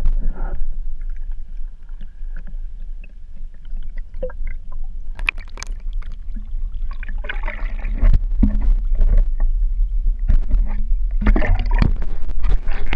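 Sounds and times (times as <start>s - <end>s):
low rumble of moving water: 0.0s - 12.9s
water sloshing and splashing: 1.0s - 9.6s, 10.2s - 12.9s.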